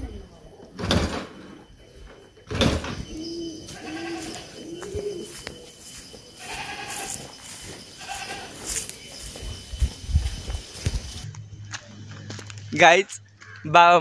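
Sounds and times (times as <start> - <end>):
pigeons cooing: 0.0 - 11.3.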